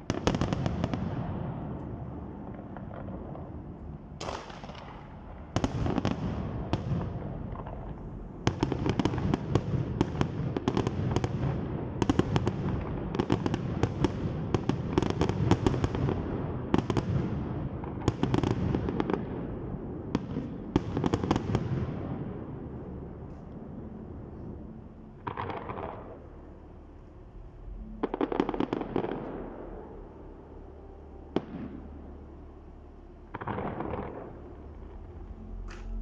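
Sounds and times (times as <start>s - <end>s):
fireworks bursting and crackling: 0.0s - 23.6s, 27.8s - 30.5s, 33.3s - 36.0s.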